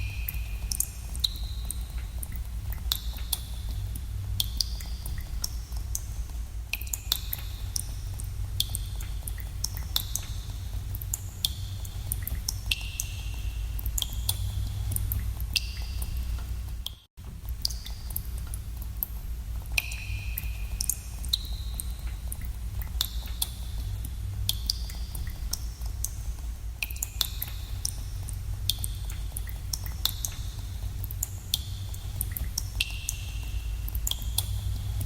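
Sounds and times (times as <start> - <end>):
water drops plinking in cave: 0.0 - 26.2, 26.8 - 35.0
steady low rumble: 0.0 - 35.0.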